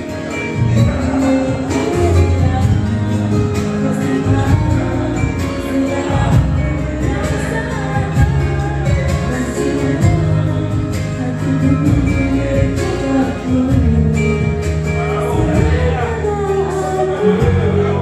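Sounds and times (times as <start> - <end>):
instrumental music with steady beat: 0.0 - 18.0
woman singing into microphone: 0.0 - 18.0.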